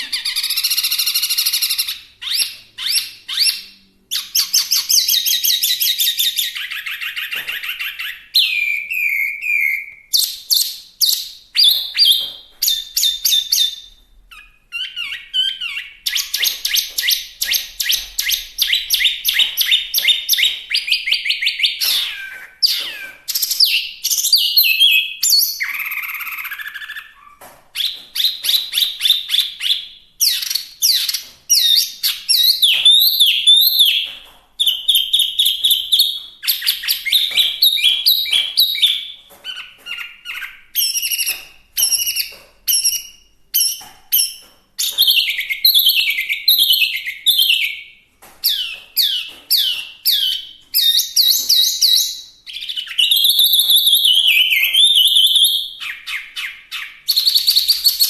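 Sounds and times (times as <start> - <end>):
bird singing whistled notes: 0.0 - 47.9, 48.5 - 58.0.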